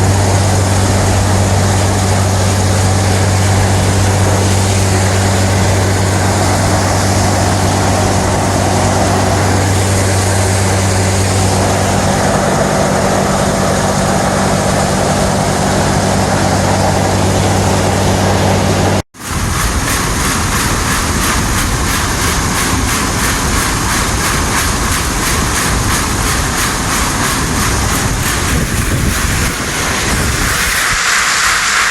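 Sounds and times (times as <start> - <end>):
machine clattering: 0.0 - 31.9
tractor engine under load: 0.0 - 31.9.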